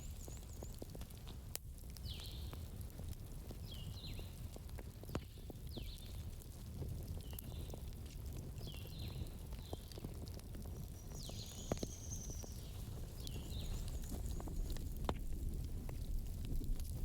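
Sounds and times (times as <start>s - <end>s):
burning wood crackles: 0.0s - 17.0s
campfire rumble: 0.0s - 17.0s.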